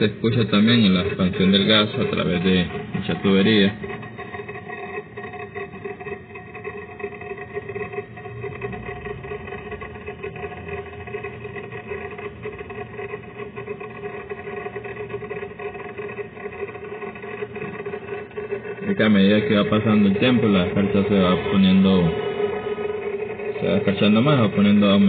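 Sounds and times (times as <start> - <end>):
compressor humming: 0.0 - 25.0.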